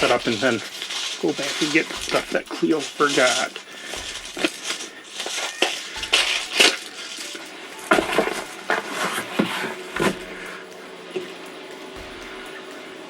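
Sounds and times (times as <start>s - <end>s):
rustling: 0.0s - 11.3s.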